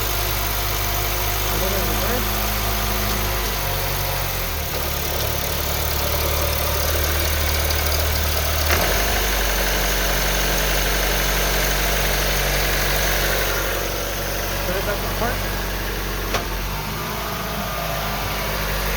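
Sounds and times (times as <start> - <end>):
car engine idling hum: 0.0 - 18.9.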